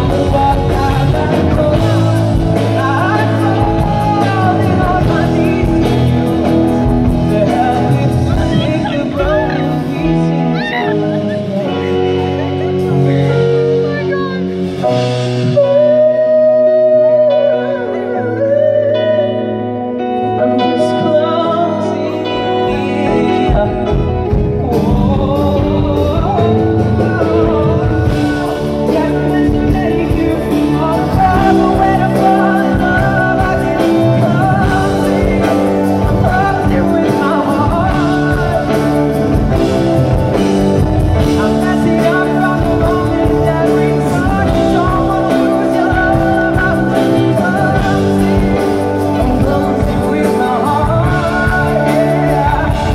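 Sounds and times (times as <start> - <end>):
drums steady beat: 0.0 - 16.4, 22.6 - 52.9
live band: 0.0 - 52.9
man singing pop-rock song: 0.0 - 52.9.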